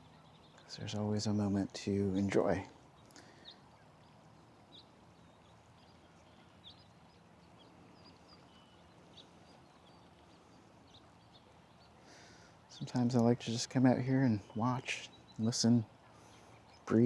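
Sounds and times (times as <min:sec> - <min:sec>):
low steady hiss: 0:00.0 - 0:17.0
small birds chirping: 0:00.0 - 0:17.0.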